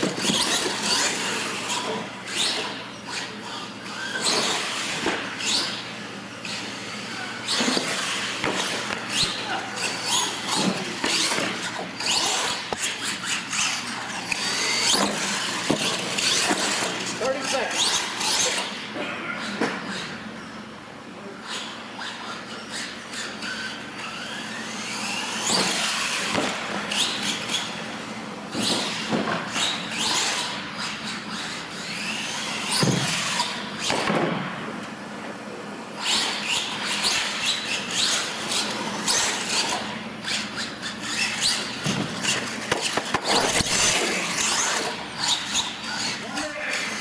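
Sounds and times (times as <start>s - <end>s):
toy truck electric motor whining: 0.0s - 5.8s, 6.4s - 18.8s, 21.5s - 34.0s, 36.0s - 47.0s.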